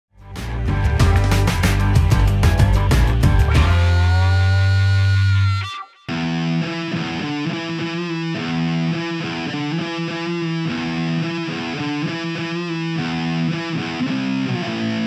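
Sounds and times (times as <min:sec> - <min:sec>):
rock music with distorted guitar: 0:00.2 - 0:15.0.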